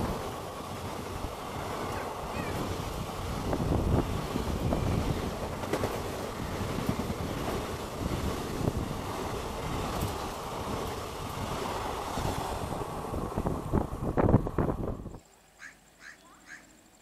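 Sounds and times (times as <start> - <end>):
train coaches rushing past: 0.0 - 15.0.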